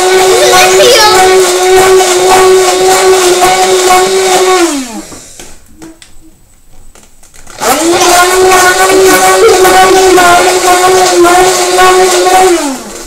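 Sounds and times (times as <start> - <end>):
electric hand mixer whirring: 0.0 - 5.6, 7.3 - 13.0.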